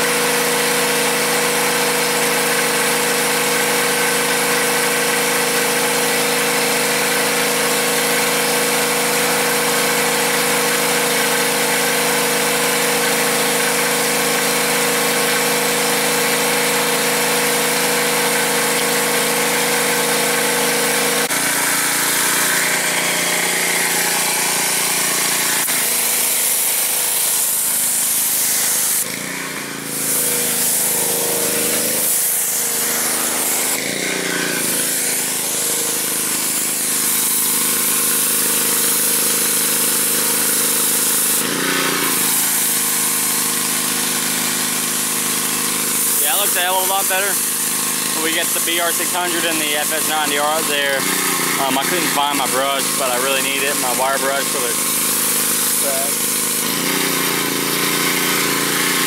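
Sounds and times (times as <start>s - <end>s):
pressure washer engine running: 0.0s - 59.0s
water spray hiss: 2.0s - 29.2s, 29.8s - 59.0s.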